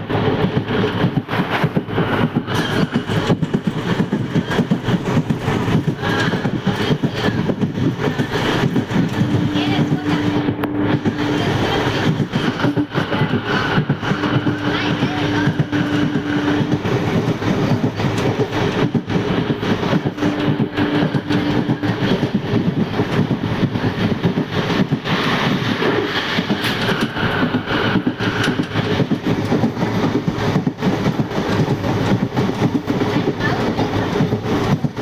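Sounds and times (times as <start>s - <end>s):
train wheels clattering over track: 0.0s - 35.0s.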